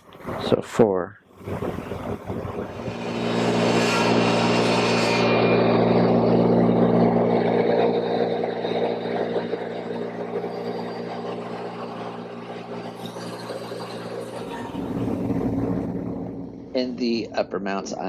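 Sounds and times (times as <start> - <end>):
power tool cutting wood: 1.8 - 16.4.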